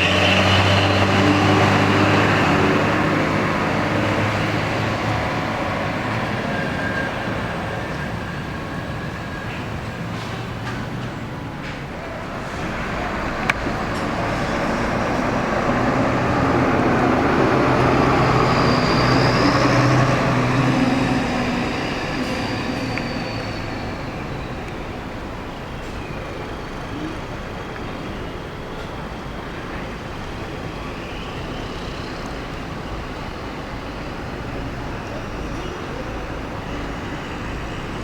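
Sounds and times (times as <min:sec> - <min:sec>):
bus engine and road noise: 0:00.0 - 0:38.0.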